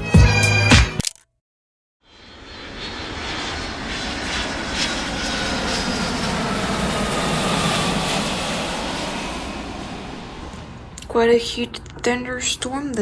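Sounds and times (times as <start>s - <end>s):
airplane engine rush: 2.1s - 13.0s.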